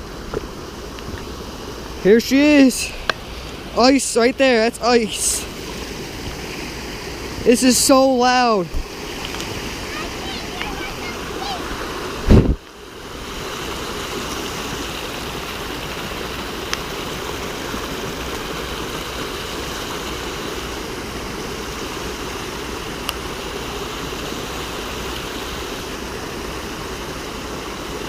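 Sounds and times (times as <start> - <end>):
roar of rushing water: 0.0 - 28.0.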